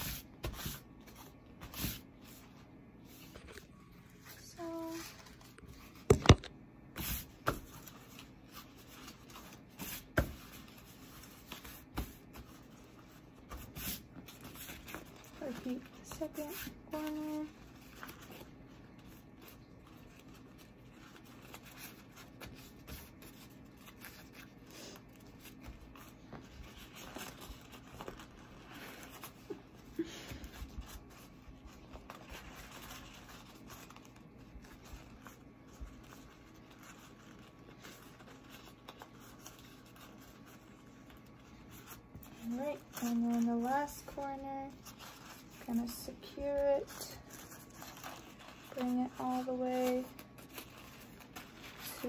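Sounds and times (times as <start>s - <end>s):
wrap rustling and crinkling: 0.8s - 6.5s, 7.3s - 52.0s.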